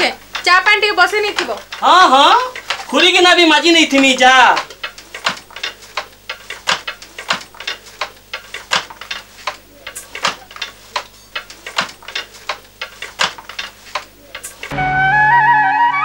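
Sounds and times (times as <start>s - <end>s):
wooden handloom clacking: 0.0s - 14.7s.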